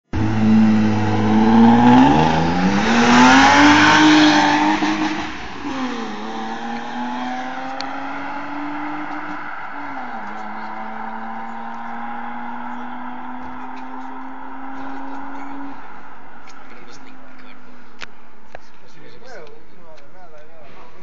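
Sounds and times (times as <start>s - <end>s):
car engine revving and idling: 0.1s - 18.4s.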